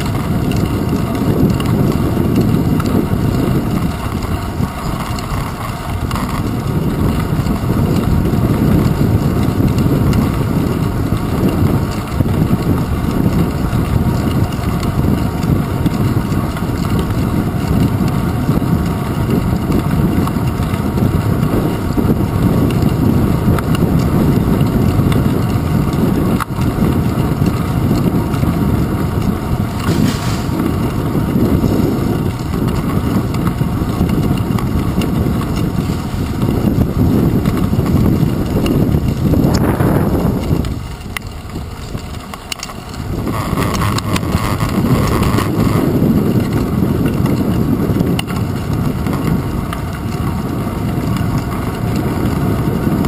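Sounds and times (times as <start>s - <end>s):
bicycle road rumble: 0.0s - 53.0s
wind buffeting microphone: 0.0s - 53.0s.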